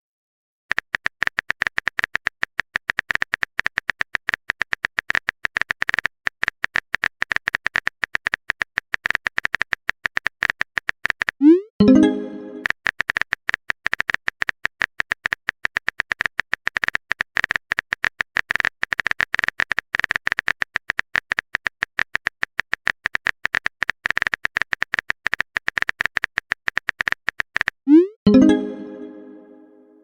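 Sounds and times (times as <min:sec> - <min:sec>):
phone keyboard typing clicks: 0:00.7 - 0:27.8.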